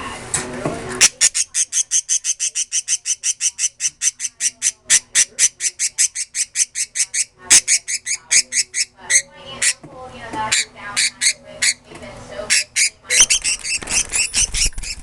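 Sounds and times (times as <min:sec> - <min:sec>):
birds chirping: 0:01.0 - 0:15.0.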